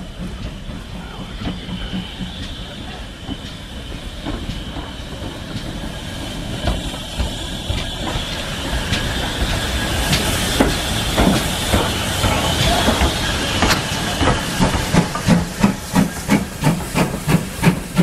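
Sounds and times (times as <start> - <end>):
steam hissing: 0.0 - 18.0
steam locomotive drawing in: 0.0 - 18.0
wheels clicking over rail joints: 0.0 - 18.0.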